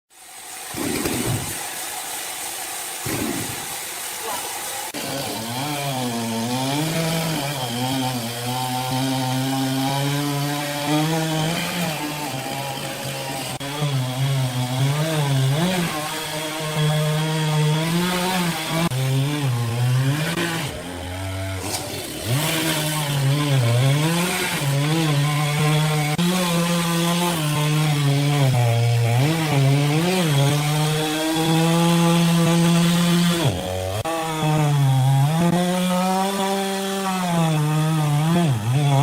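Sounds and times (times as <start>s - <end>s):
chainsaw cutting wood: 0.2s - 39.0s.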